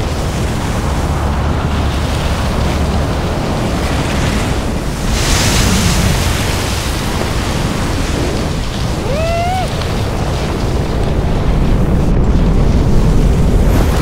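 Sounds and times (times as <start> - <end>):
rushing wind: 0.0 - 14.0.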